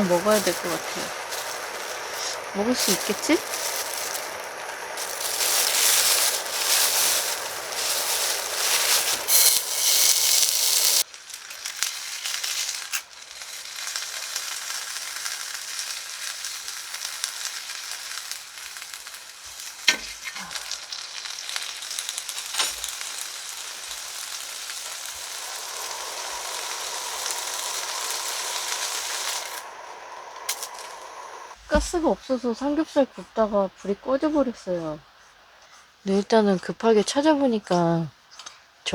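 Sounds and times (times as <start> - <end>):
pork sizzling in a hot pan: 0.0 - 32.4.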